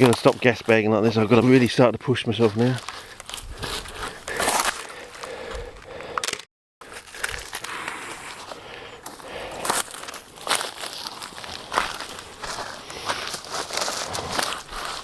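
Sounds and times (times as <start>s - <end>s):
footsteps through undergrowth: 0.0s - 5.9s, 6.8s - 15.0s.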